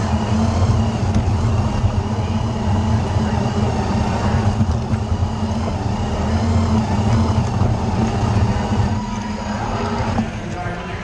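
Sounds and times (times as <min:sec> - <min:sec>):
crowd noise and voices: 0:00.0 - 0:11.0
electric motors humming and whining: 0:00.0 - 0:11.0.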